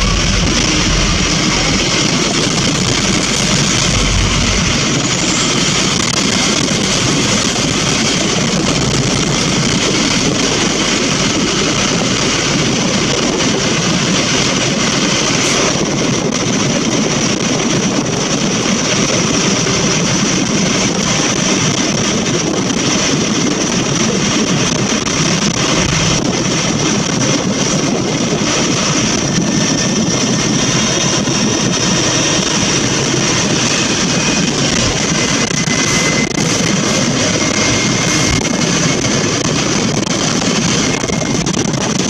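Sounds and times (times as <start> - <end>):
bus engine drone: 0.0 - 42.0
road and tyre noise: 0.0 - 42.0.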